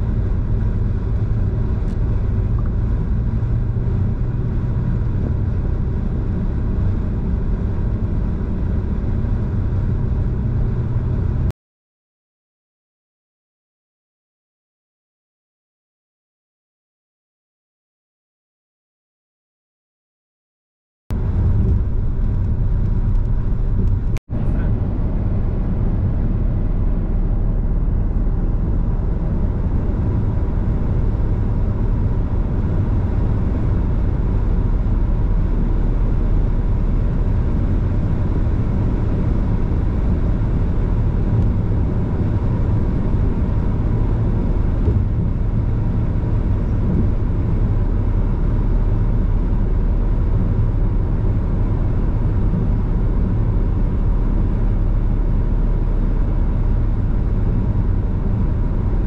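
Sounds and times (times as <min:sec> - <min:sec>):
car tyre and engine rumble: 0:00.0 - 0:11.5, 0:21.1 - 0:59.0.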